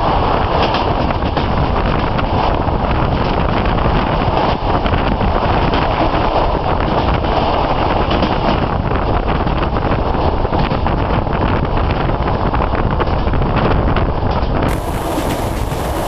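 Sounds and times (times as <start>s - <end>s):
train rumbling on rails: 0.0s - 16.0s
wind noise on microphone: 0.0s - 16.0s.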